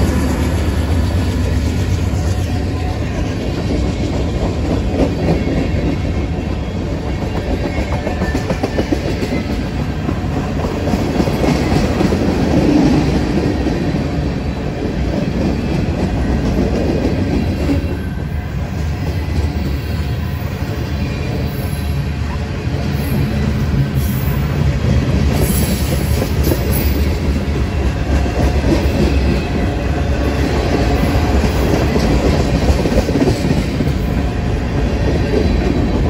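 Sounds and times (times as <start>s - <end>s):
freight train rumble: 0.0s - 36.0s
wheels clacking on rails: 0.0s - 36.0s.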